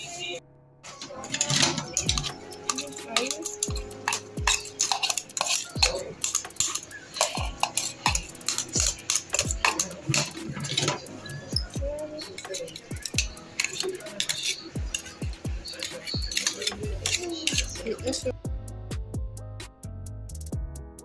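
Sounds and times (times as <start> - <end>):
spoon scraping metal bowl: 0.9 - 18.2
background music with beat: 0.9 - 21.0.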